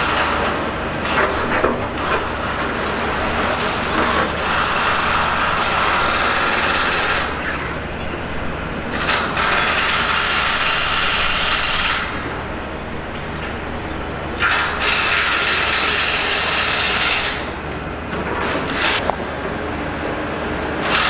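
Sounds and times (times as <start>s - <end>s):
harsh mechanical whirring: 0.0s - 19.4s
machinery engine hum: 0.0s - 21.0s.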